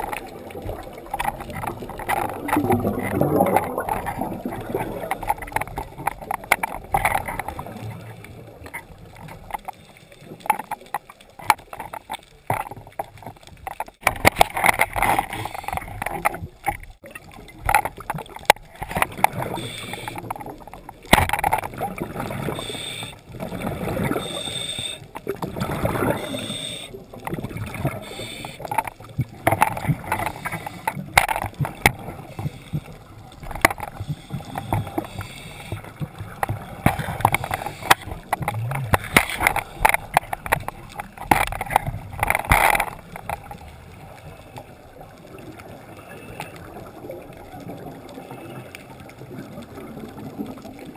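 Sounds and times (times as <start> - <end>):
underwater gurgling bubbles: 0.0 - 50.9.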